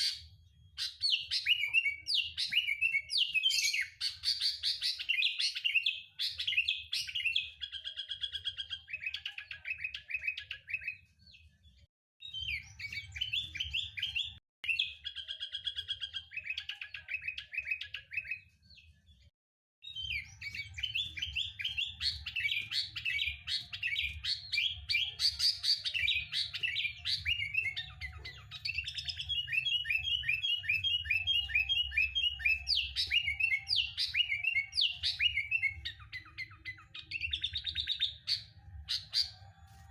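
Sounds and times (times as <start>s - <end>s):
bird singing and chattering: 0.0s - 11.5s, 12.2s - 18.9s, 19.8s - 39.5s.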